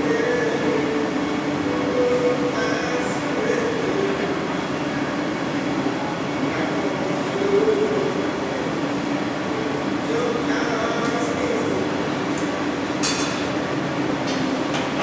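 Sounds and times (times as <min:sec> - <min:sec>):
gas burners and fans rushing: 0:00.0 - 0:15.0.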